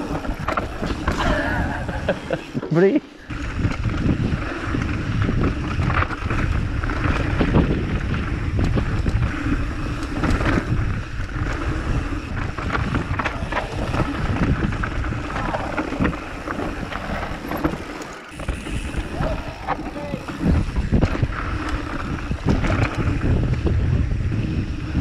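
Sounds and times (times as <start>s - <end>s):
steady rushing noise: 0.0s - 25.0s
wind rumbling on microphone: 0.0s - 25.0s.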